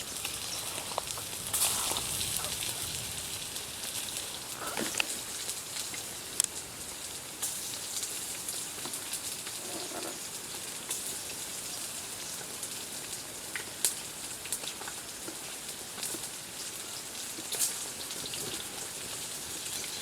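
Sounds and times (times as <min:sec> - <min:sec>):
rain falling steadily: 0:00.0 - 0:20.0
raindrops ticking on surfaces: 0:00.0 - 0:20.0.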